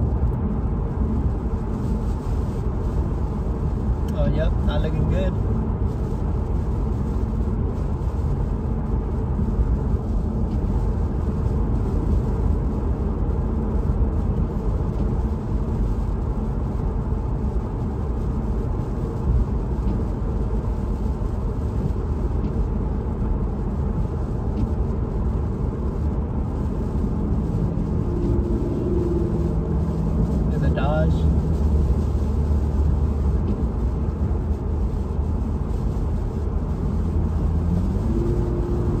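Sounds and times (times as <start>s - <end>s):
car road noise on wet road: 0.0s - 39.0s.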